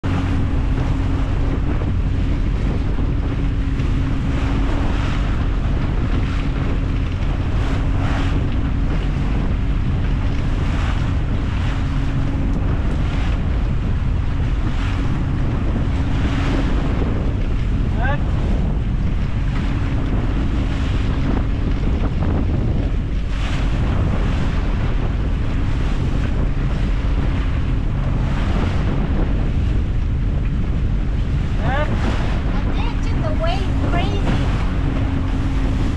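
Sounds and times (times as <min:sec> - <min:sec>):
outboard engine humming: 0:00.0 - 0:35.9
water splashing along hull: 0:00.0 - 0:35.9
wind buffeting microphone: 0:00.0 - 0:35.9.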